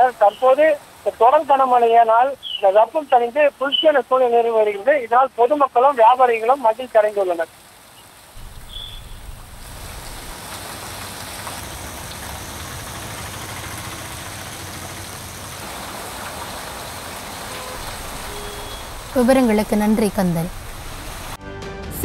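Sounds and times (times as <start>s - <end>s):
heavy rain pouring: 0.0s - 21.4s
traffic driving through water: 0.0s - 21.4s.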